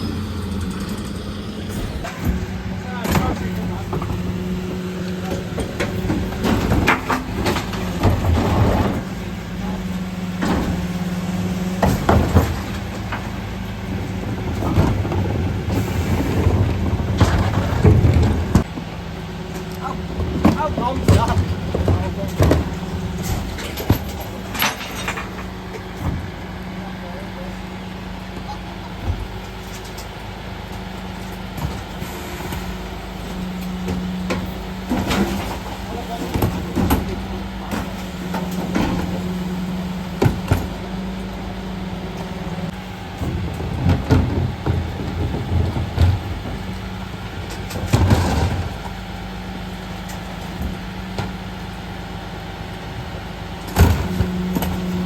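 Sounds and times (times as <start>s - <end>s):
truck engine rumble: 0.0s - 55.0s.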